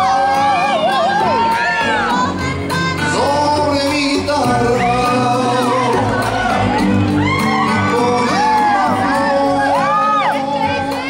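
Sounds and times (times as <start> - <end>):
crowd shouts: 0.0 - 3.5, 4.4 - 11.0
rumba music with singer: 0.0 - 11.0.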